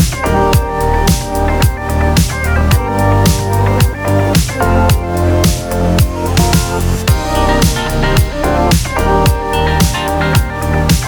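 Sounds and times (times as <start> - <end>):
background music with kick drum: 0.0 - 11.0.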